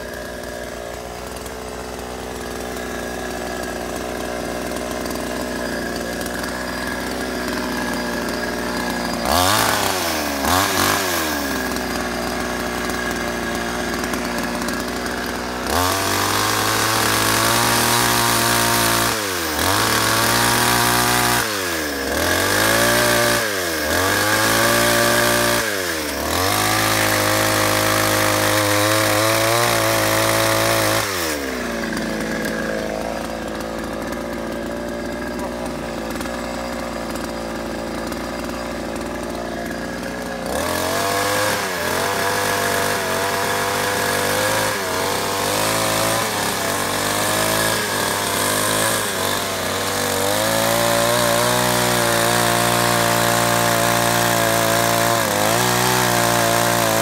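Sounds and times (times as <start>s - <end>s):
chainsaw cutting wood: 0.0s - 57.0s
chainsaw idling and revving: 0.0s - 57.0s.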